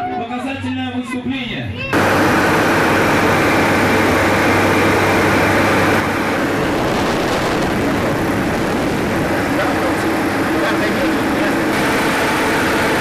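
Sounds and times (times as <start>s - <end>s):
propeller aircraft engine drone: 1.9s - 13.0s
rushing air: 2.0s - 13.0s.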